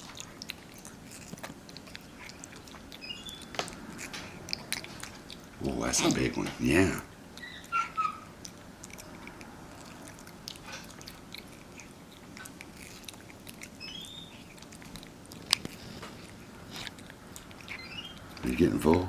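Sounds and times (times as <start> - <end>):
monkey chewing and lip smacking: 0.0 - 19.0.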